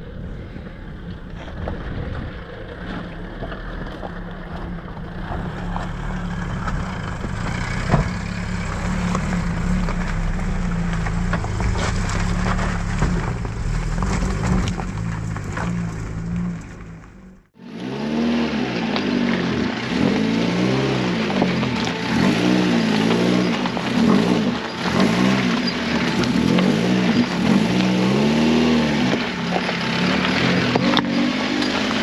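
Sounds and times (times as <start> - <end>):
car engine running under load: 0.0 - 32.0.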